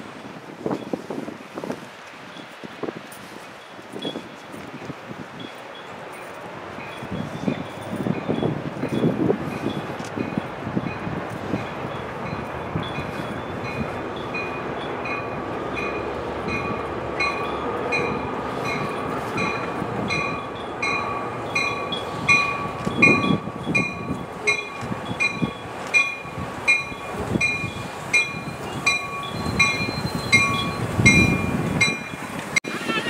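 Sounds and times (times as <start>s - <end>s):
train rumbling: 0.0s - 33.0s.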